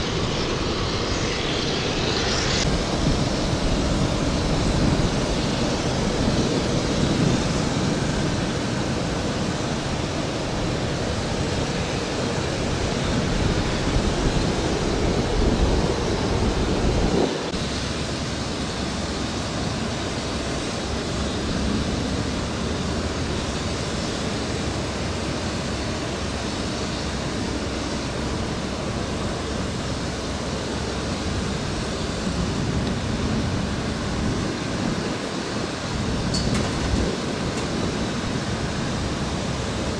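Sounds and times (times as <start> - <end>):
steady outdoor rushing noise: 0.0 - 39.9.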